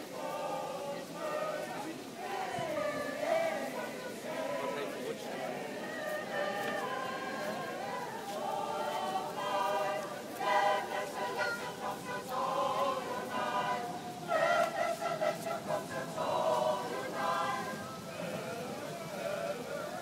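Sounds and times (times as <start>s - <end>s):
choir singing unaccompanied: 0.0s - 20.0s.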